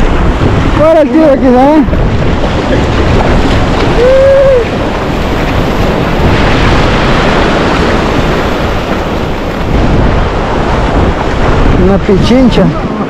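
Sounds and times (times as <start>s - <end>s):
ocean surf on beach: 0.0s - 13.0s
wind buffeting microphone: 0.0s - 13.0s.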